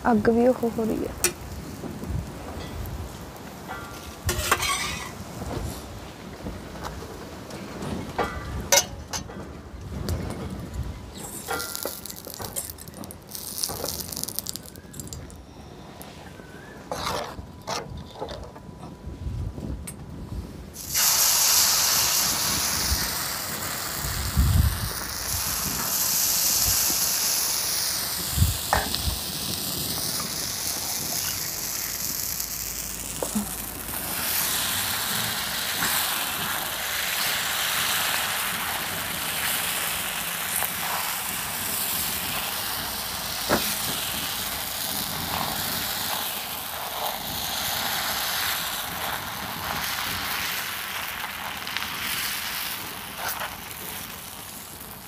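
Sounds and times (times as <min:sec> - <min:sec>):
batter sizzling on hot griddle: 0:00.1 - 0:06.1, 0:10.0 - 0:15.2, 0:20.8 - 0:55.0.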